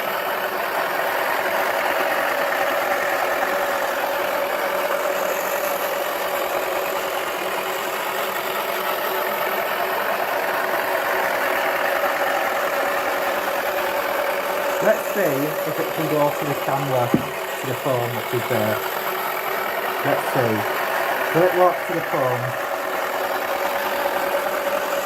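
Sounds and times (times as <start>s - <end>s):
small electric motor buzzing: 0.0s - 25.0s.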